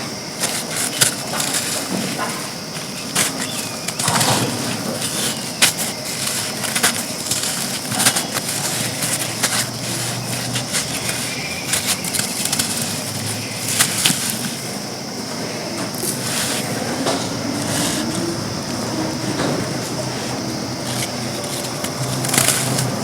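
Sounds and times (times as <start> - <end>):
sand chunks crumbling and crunching: 0.0 - 23.0.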